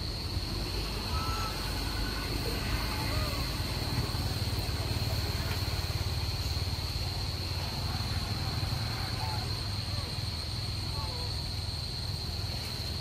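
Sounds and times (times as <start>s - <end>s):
high-pitched insect drone: 0.0s - 13.0s
steady low rumble: 0.0s - 13.0s
faint chirps: 0.7s - 13.0s.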